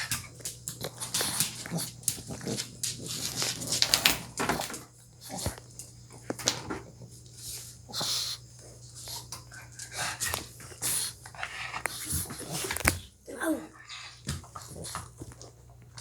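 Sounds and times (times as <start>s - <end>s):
dog breathing sounds: 0.0s - 4.4s, 5.2s - 15.6s.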